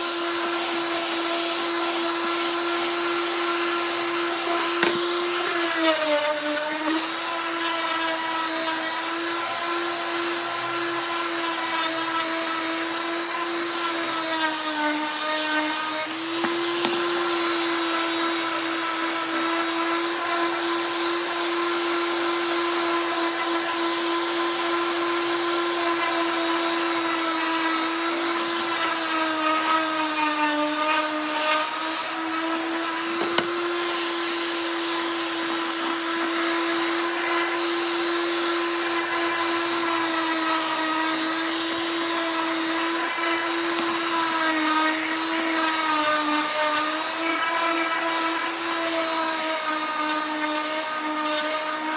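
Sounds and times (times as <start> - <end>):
orbital sander motor whine: 0.0 - 51.9.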